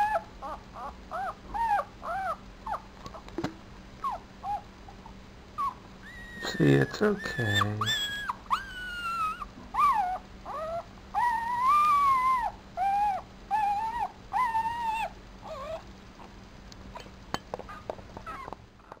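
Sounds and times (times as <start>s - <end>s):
puppy crying: 0.0s - 3.2s, 4.0s - 16.3s, 17.6s - 19.0s.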